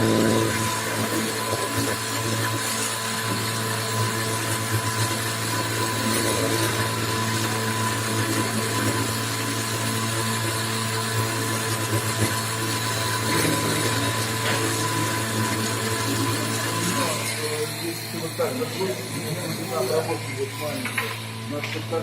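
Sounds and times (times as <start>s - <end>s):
high spindle whine: 0.0s - 22.0s
machine tool motor hum: 0.0s - 22.0s.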